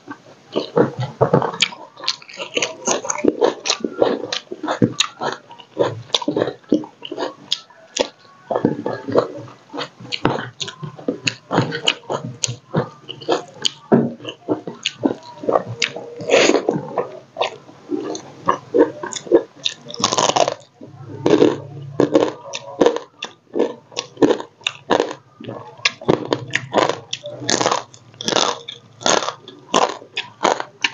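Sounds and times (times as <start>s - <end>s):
wet chewing clicks and crunches: 0.0s - 30.9s.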